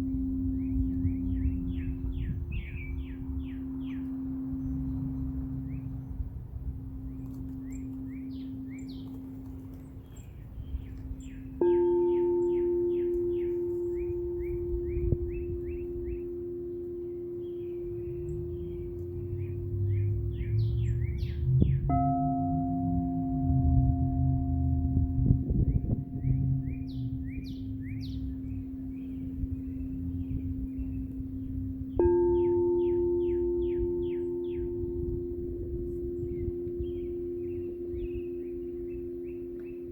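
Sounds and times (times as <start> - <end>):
higher-pitched bowl struck: 0.0 - 5.9, 11.2 - 39.9
singing bowl ringing: 0.0 - 10.0, 10.6 - 39.9
birds chirping: 0.0 - 39.9.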